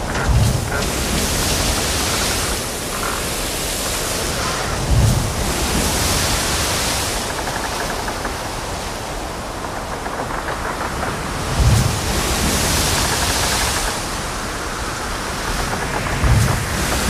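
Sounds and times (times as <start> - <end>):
water breaking against hull: 0.0 - 17.0.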